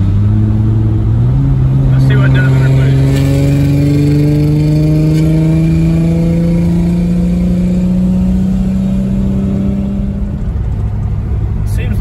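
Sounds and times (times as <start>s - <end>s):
car engine revving under boost: 0.0s - 12.0s.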